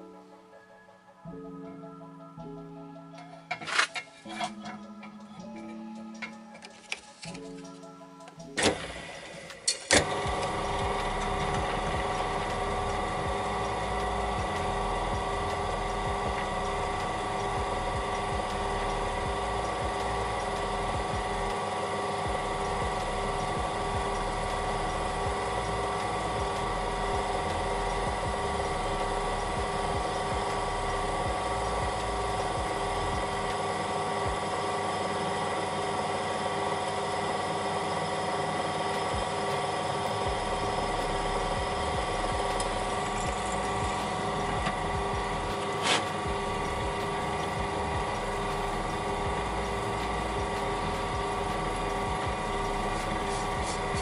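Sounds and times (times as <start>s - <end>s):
drill press motor running: 8.7s - 54.0s
drill bit boring metal: 9.2s - 54.0s.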